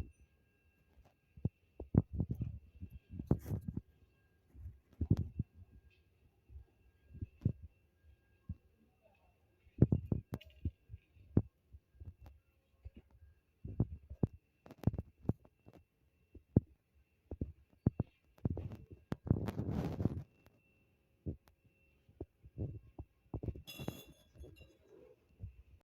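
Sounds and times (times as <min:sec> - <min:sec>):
faint steady hum: 0:00.0 - 0:25.8.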